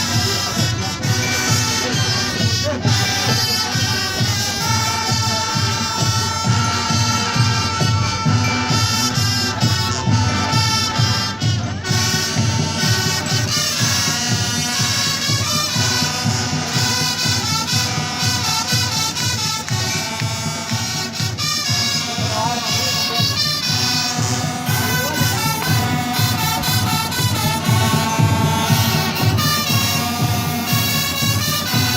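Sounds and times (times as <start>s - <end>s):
marching brass band playing: 0.0s - 31.9s
steady drum beat: 0.0s - 31.9s.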